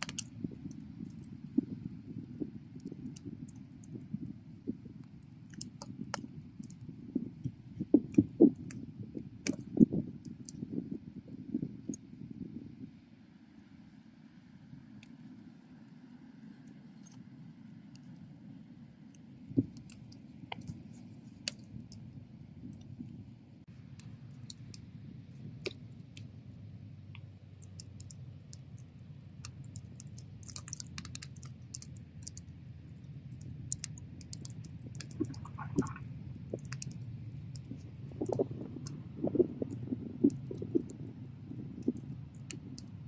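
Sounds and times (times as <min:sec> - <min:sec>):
burning wood crackling and popping: 0:00.0 - 0:12.1, 0:19.0 - 0:43.0
low rumble of flames: 0:00.0 - 0:43.0.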